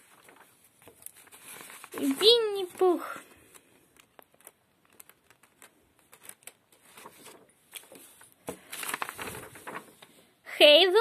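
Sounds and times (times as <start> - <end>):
paper sheets rustling: 0.0 - 10.3.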